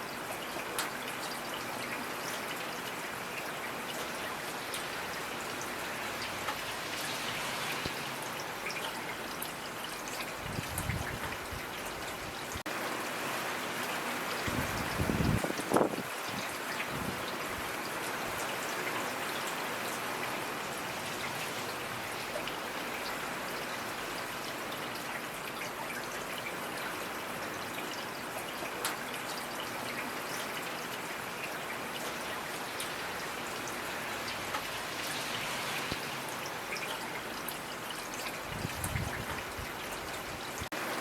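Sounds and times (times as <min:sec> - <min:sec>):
raindrops ticking on a surface: 0:00.0 - 0:41.0
steady rain hiss: 0:00.0 - 0:41.0.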